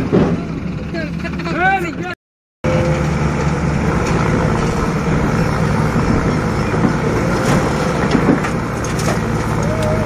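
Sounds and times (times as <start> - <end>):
tractor diesel engine straining: 0.0 - 10.0.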